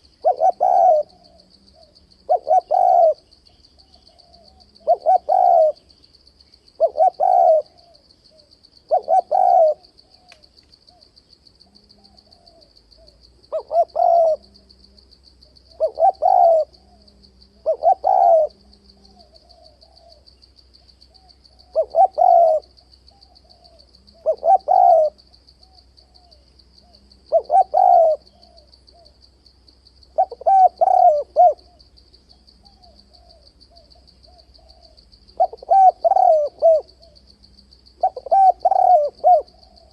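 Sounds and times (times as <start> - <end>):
dove cooing: 0.0 - 5.9, 6.7 - 11.1, 11.8 - 14.7, 15.6 - 20.3, 21.1 - 29.1, 30.2 - 31.9, 32.6 - 39.9
high insect-like trill: 0.0 - 39.9.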